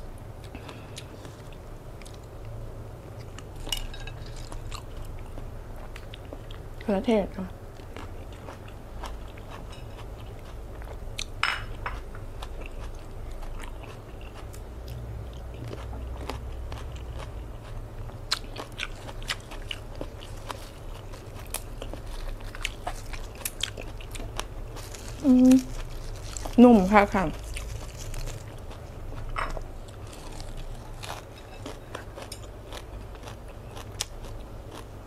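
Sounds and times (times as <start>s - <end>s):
person chewing food: 0.4s - 6.8s, 7.7s - 26.6s, 27.3s - 35.0s.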